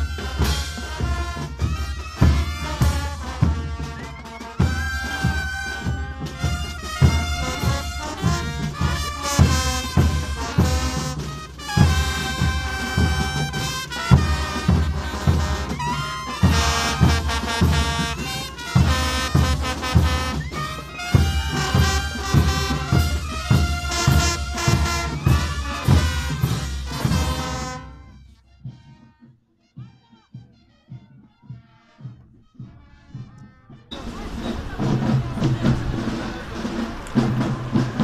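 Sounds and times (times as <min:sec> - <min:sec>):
marching brass band playing: 0:00.0 - 0:38.0
steady drum beat: 0:00.0 - 0:38.0.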